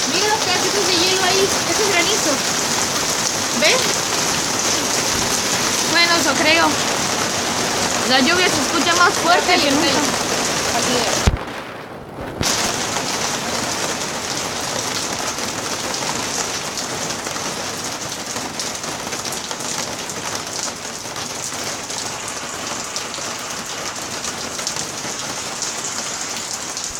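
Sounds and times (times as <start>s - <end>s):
heavy rain and hail: 0.0s - 26.9s.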